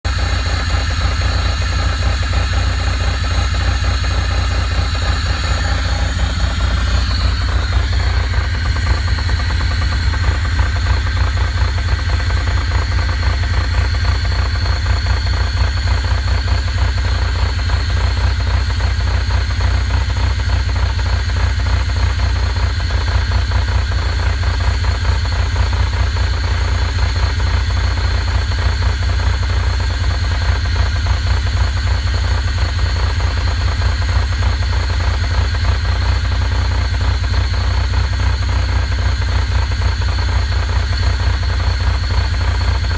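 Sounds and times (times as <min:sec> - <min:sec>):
car engine idling with knock: 0:00.0 - 0:42.9.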